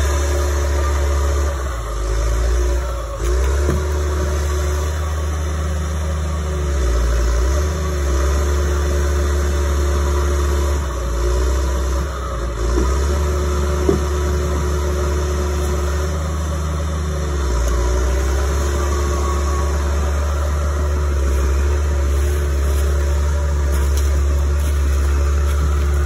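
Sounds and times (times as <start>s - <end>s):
heavy machine diesel engine running: 0.0s - 26.0s.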